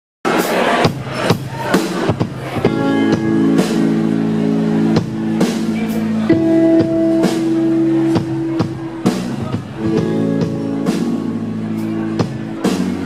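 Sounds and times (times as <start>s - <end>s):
live band playing: 0.3s - 13.0s
drum hits: 0.4s - 13.0s.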